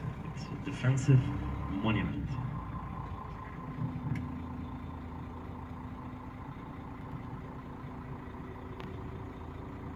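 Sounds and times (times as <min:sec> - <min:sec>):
vehicle engine humming: 0:00.0 - 0:09.9.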